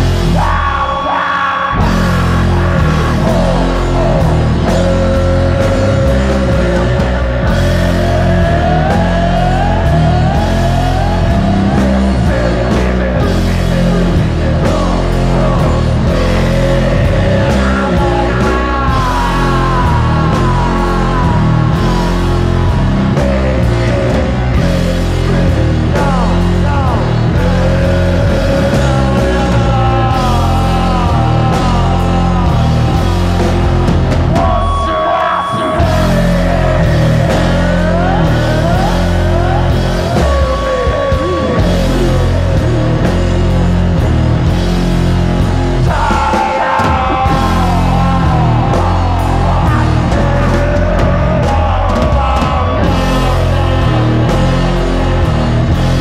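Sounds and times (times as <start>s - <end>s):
loud rock music: 0.0s - 56.0s.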